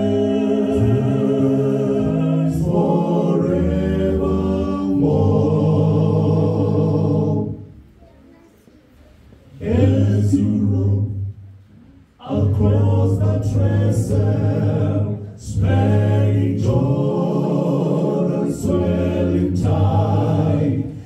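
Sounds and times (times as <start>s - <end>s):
male choir singing in harmony: 0.0s - 7.7s, 9.5s - 11.4s, 12.2s - 21.0s.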